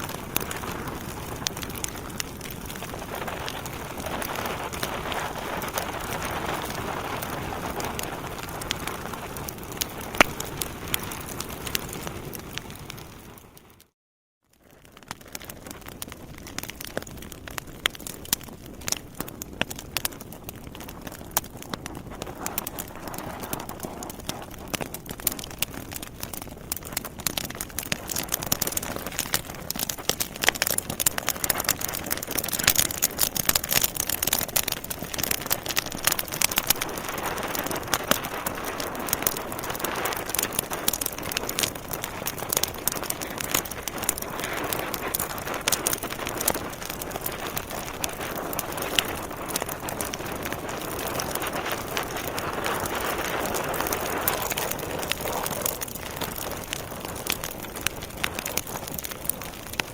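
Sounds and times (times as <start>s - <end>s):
wood fire crackling: 0.0s - 14.0s, 14.6s - 59.9s.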